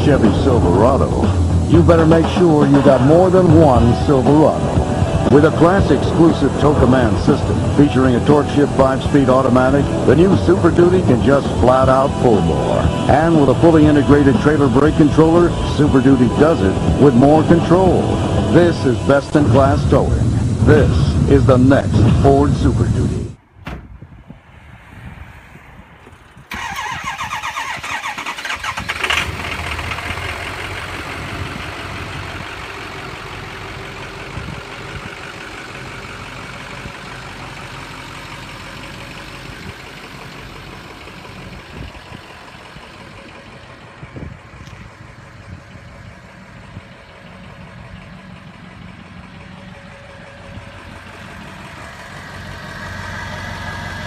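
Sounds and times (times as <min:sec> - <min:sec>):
diesel engine starting and idling: 0:00.0 - 0:23.4, 0:26.0 - 0:54.0.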